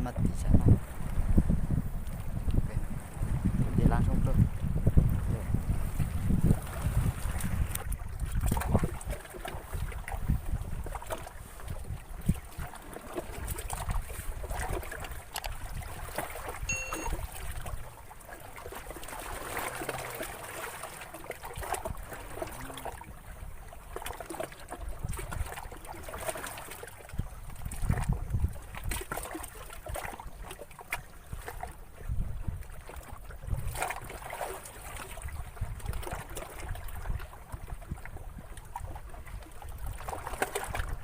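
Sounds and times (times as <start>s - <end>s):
water lapping and trickling: 0.0s - 41.0s
wind rumbling on microphone: 0.0s - 41.0s.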